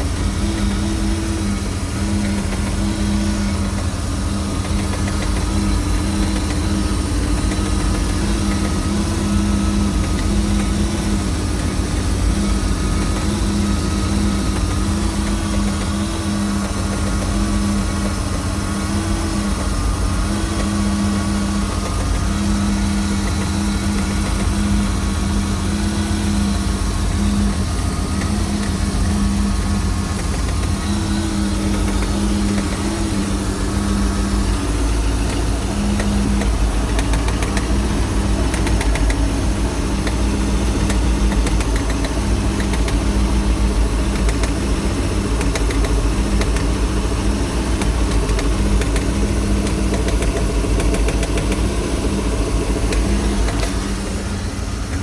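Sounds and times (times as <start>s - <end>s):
boat engine idling: 0.0s - 55.0s.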